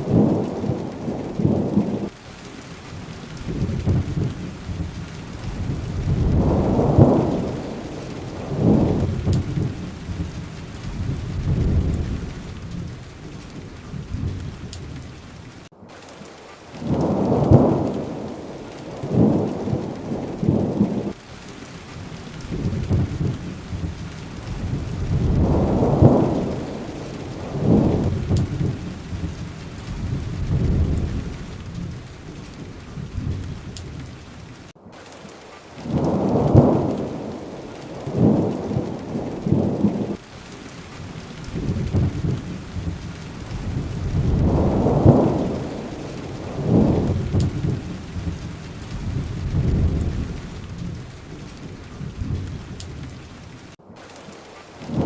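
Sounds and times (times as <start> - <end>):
low rolls of thunder: 0.0 - 21.2, 21.9 - 34.7, 35.8 - 53.8, 54.8 - 55.0
steady rain: 0.0 - 55.0.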